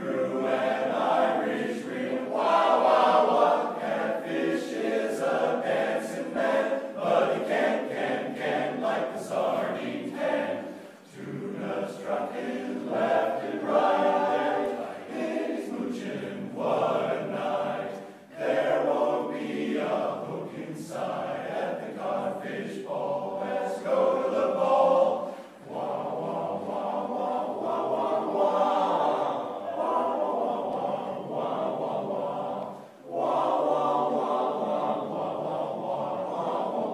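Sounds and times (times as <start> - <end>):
men's chorus singing a cappella: 0.0 - 36.9.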